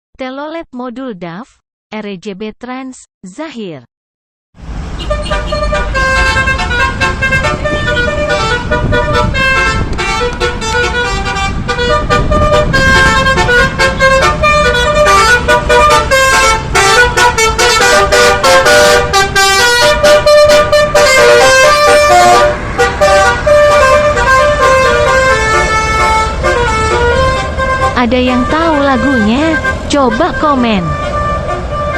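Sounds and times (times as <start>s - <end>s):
low rumble of bus: 4.6s - 31.9s
bus horn playing a tune: 4.8s - 31.9s.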